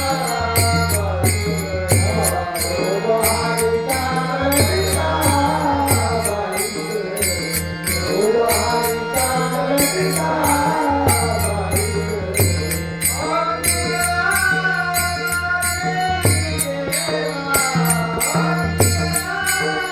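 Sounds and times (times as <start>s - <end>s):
person singing: 0.0s - 19.9s
small hand cymbals: 0.0s - 19.9s.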